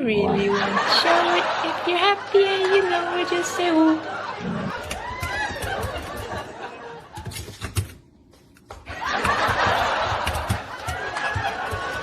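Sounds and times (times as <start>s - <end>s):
people laughing: 0.0s - 7.6s, 8.9s - 12.0s.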